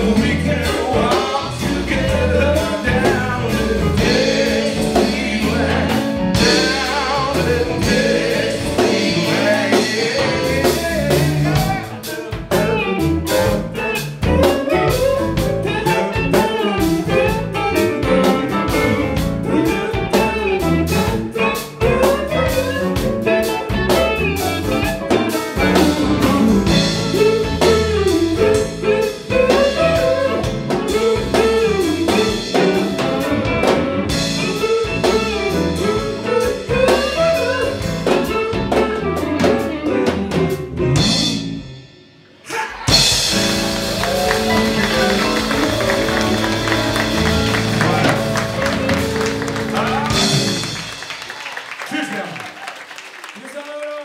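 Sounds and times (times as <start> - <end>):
person singing: 0.0 - 23.0, 25.1 - 41.2, 44.0 - 50.7
electric guitar: 0.0 - 41.8, 42.8 - 51.5
keyboards: 0.0 - 42.0, 42.8 - 51.3
bass guitar: 0.0 - 51.4
drum kit: 0.0 - 51.7.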